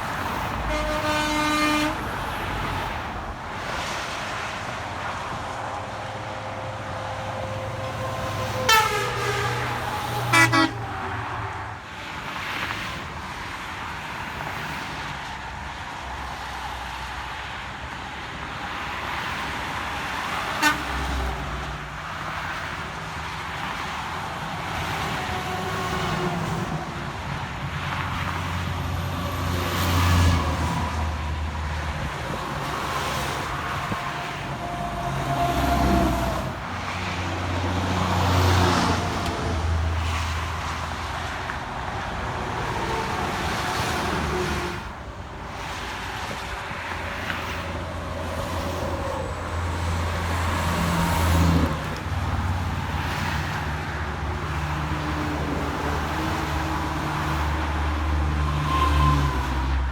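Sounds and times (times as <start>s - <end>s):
highway traffic passing: 0.0s - 59.9s.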